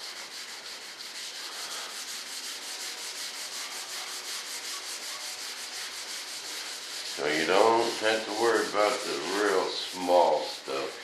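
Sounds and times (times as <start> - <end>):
sandpaper sanding back and forth: 0.0 - 11.0.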